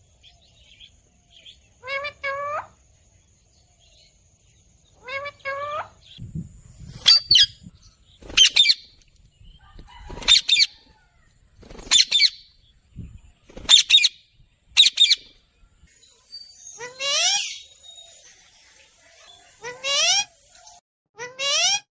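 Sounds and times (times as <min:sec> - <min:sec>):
bird chirping: 0:00.0 - 0:20.8.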